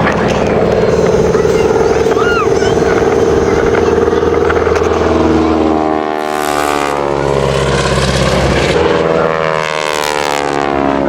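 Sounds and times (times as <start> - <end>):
propeller plane engine passing: 0.0 - 11.0.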